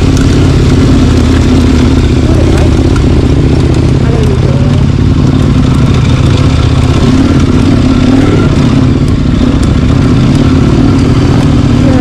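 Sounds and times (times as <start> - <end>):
faint clicks and rattles: 0.0 - 12.0
vehicle engine running: 0.0 - 12.0.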